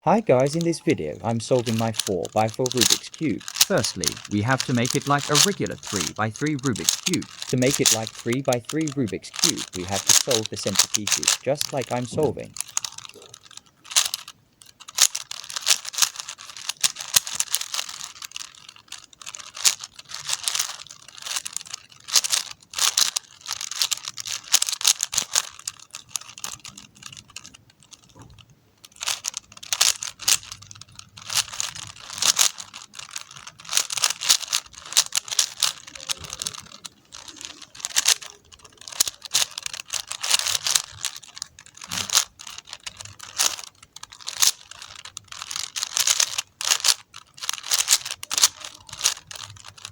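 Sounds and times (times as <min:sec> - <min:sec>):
puzzle cube clicking and rattling: 0:00.0 - 0:49.9.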